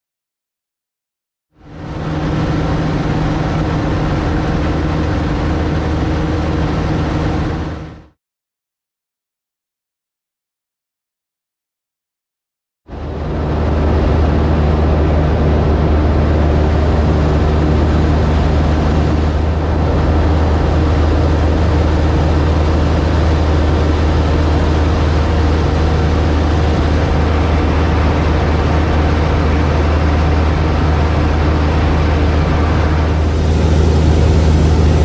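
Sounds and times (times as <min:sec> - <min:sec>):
light aircraft engine humming: 0:01.6 - 0:08.1, 0:12.9 - 0:35.0.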